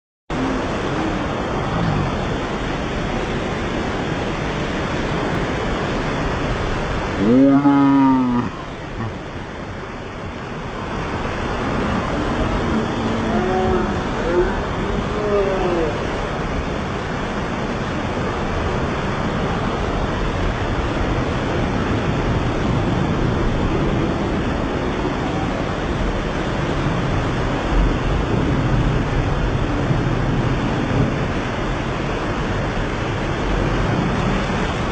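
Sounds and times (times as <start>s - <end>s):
floodwater rushing: 0.3s - 34.9s
torrential rain pouring: 0.3s - 34.9s.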